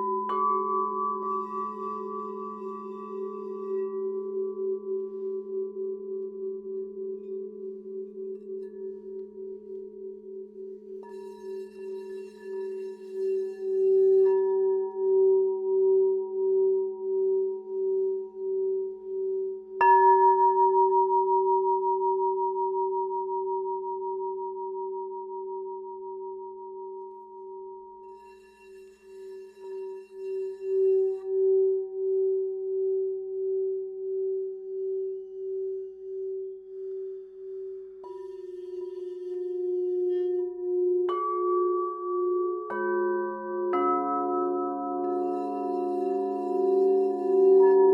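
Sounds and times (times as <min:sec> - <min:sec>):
low held tone: 0:00.0 - 0:47.9
singing bowl rim tone: 0:00.0 - 0:47.9.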